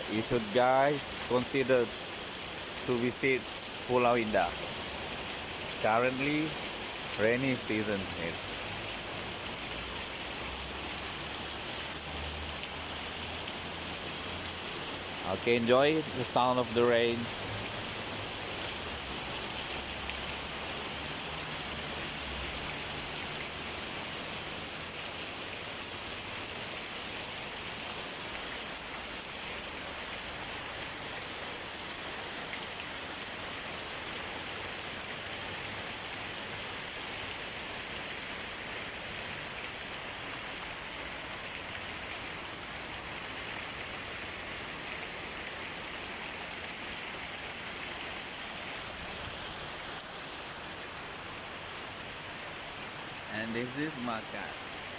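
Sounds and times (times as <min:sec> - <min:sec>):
heavy rain hissing: 0:00.0 - 0:54.9.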